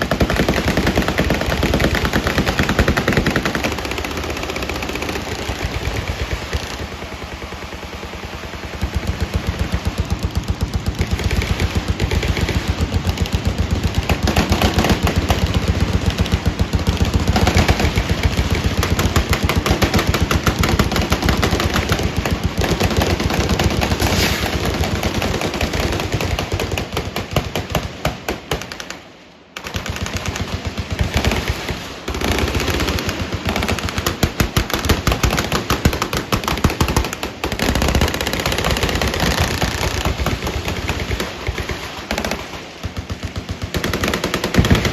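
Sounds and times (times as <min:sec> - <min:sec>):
automatic weapons firing: 0:00.0 - 0:44.9.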